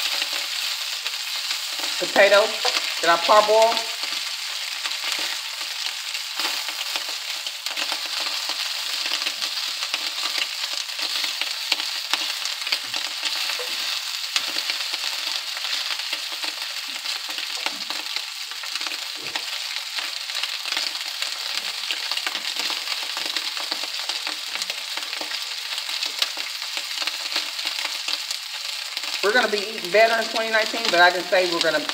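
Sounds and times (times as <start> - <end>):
sausage sizzling in a wok: 0.0 - 31.9.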